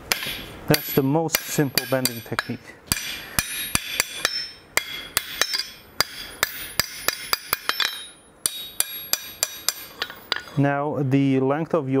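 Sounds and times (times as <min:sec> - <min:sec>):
hammer striking metal on anvil: 0:00.0 - 0:10.6.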